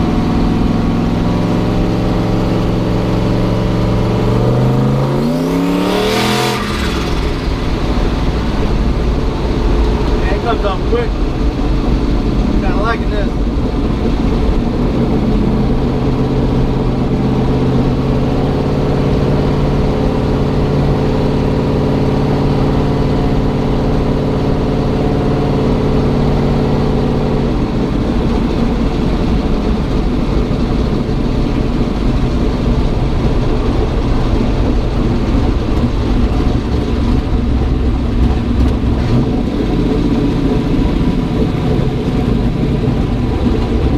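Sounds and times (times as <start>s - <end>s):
car engine droning while driving: 0.0s - 43.9s
road noise: 0.0s - 43.9s.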